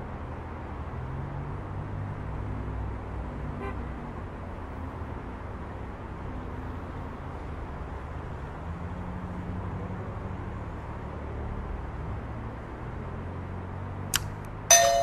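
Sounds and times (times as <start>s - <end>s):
car engines passing: 0.0s - 15.0s.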